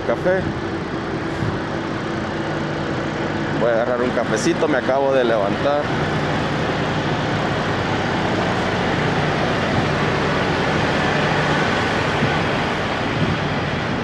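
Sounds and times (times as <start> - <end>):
trucks idling: 0.0 - 14.0.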